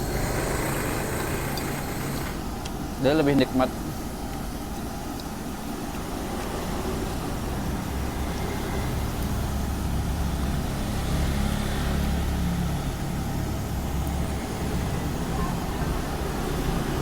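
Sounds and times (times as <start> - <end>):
engine hum: 0.0 - 17.0
traffic rumble: 0.0 - 17.0.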